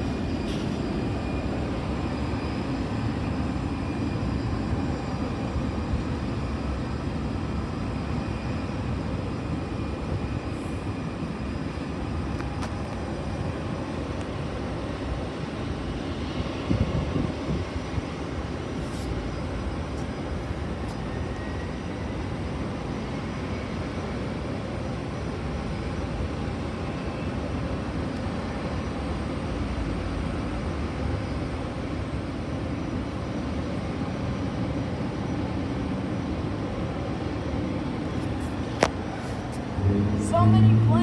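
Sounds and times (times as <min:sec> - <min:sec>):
jet airliners rumbling and hissing: 0:00.0 - 0:41.0.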